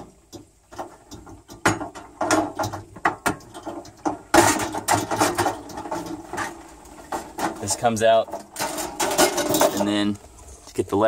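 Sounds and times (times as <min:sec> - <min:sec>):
metal clicks and knocks: 0:00.0 - 0:10.2
metal clatter: 0:00.0 - 0:10.7.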